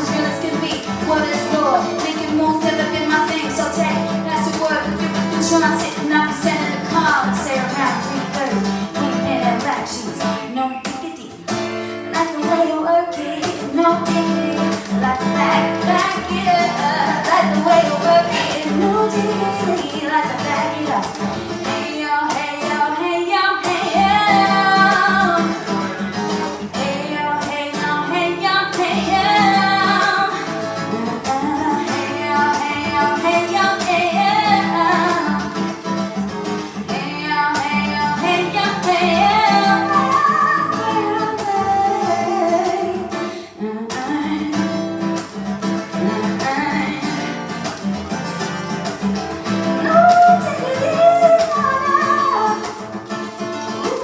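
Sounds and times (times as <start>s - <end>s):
acoustic guitar: 0.0s - 54.0s
woman singing: 0.0s - 54.0s.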